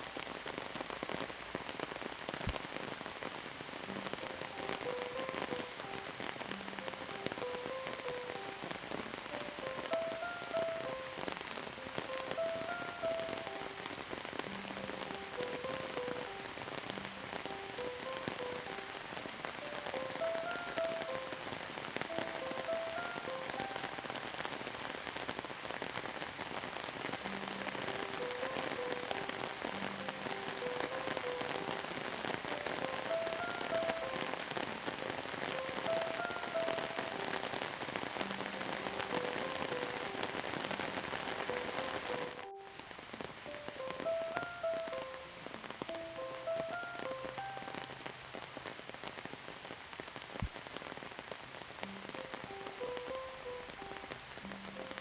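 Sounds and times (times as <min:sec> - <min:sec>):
steady rain patter: 0:00.0 - 0:55.0
soft gentle melody: 0:02.6 - 0:49.6, 0:50.6 - 0:55.0.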